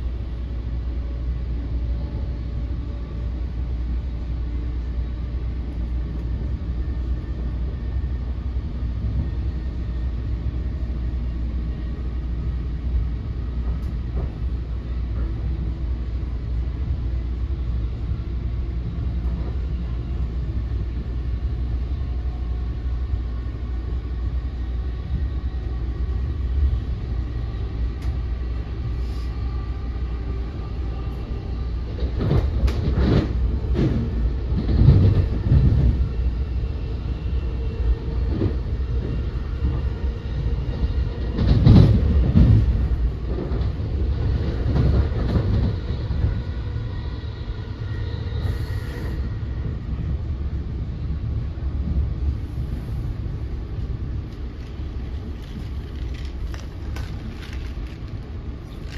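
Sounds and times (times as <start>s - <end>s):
train coach rumbling: 0.0s - 58.9s.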